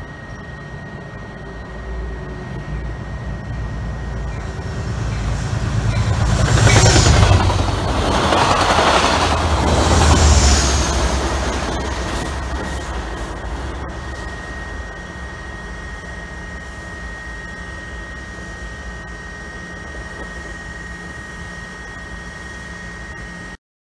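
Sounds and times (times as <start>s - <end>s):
diesel locomotive engine drone: 0.0s - 23.6s
thin high whine: 0.0s - 23.6s.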